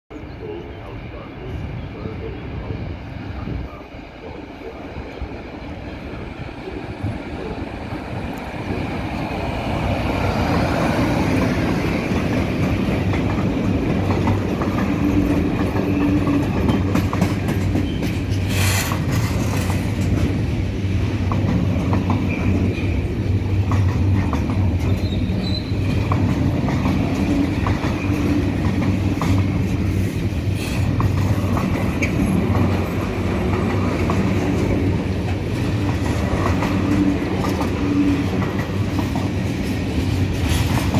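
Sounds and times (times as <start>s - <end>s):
freight train passing: 0.1s - 40.9s.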